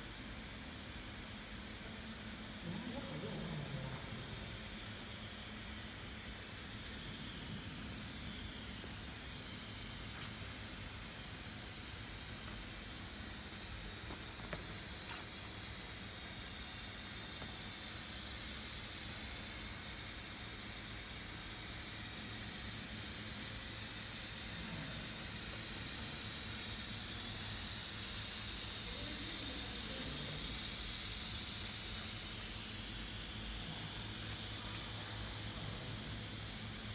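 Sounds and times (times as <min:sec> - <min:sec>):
low machinery hum: 0:00.0 - 0:36.9
machinery hiss: 0:00.0 - 0:36.9.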